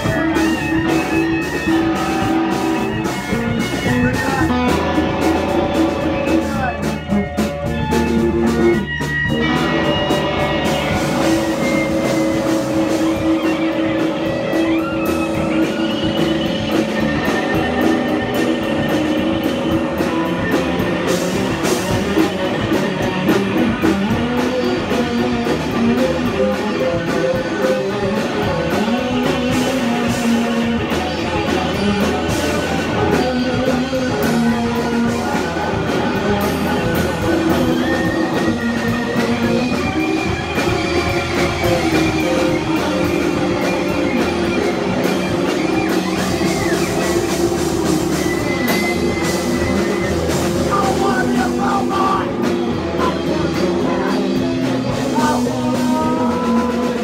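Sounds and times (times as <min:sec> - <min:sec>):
punk rock band playing: 0:00.0 - 0:57.0.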